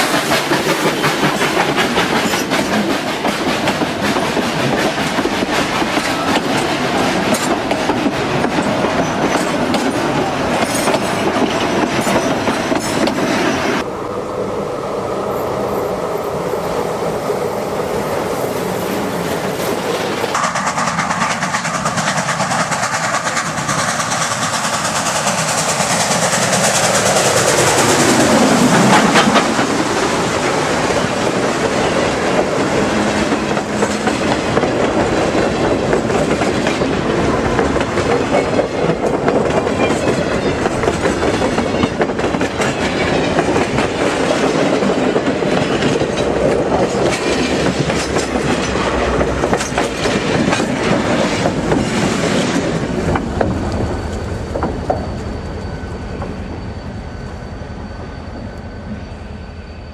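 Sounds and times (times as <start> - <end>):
steam trains passing: 0.0 - 59.9.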